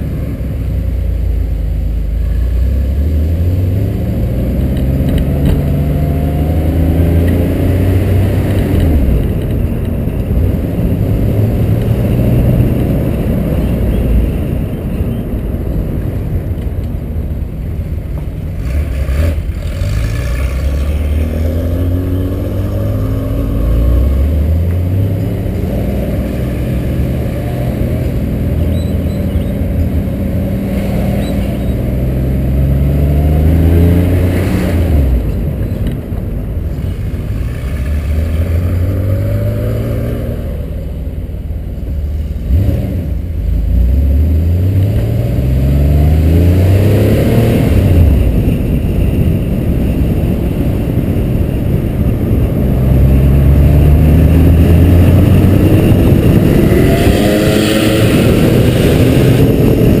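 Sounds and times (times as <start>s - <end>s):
car engine accelerating: 0.0s - 60.0s
wind and road noise: 0.0s - 60.0s.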